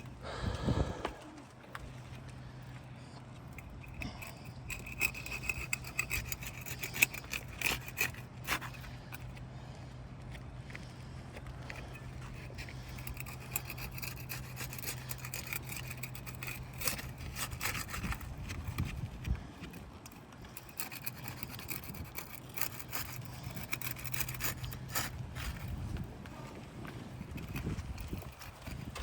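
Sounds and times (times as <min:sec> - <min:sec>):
steady low hum: 0:00.0 - 0:29.0
roof shingle scraping and crackling: 0:01.2 - 0:29.0.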